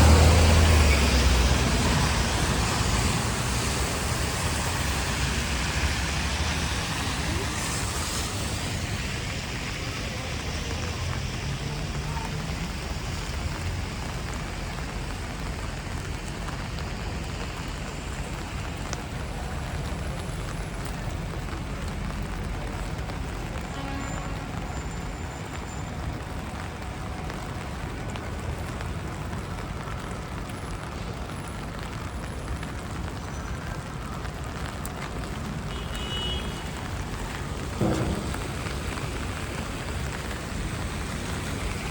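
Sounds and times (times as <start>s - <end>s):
city traffic rumble: 0.0s - 41.9s
rain on pavement: 0.0s - 41.9s.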